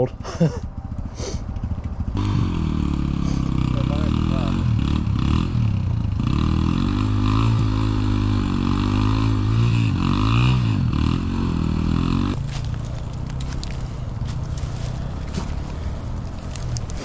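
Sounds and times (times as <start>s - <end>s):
dirt bike engine revving: 1.1s - 17.0s.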